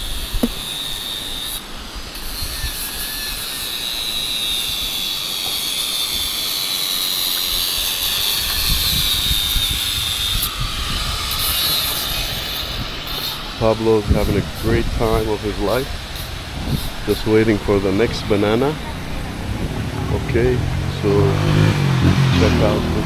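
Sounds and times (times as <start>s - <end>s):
power grinder whining: 0.0s - 23.0s.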